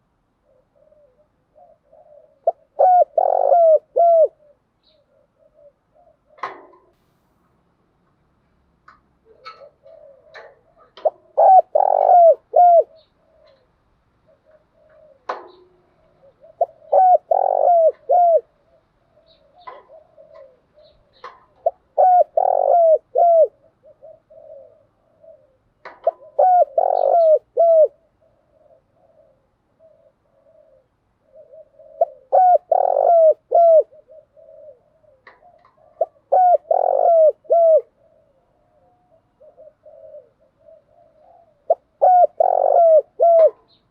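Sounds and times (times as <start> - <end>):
dove cooing: 0.0 - 7.0, 9.2 - 43.9.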